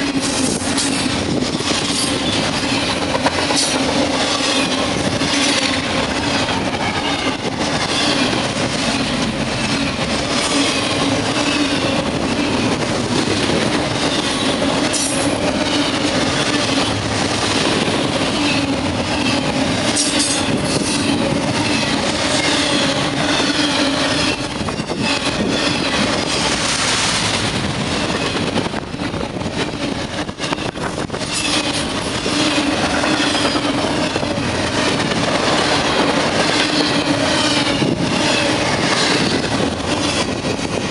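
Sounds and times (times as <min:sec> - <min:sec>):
freight train wheels rumbling: 0:00.0 - 0:40.9
train wheel clacks: 0:00.0 - 0:40.9.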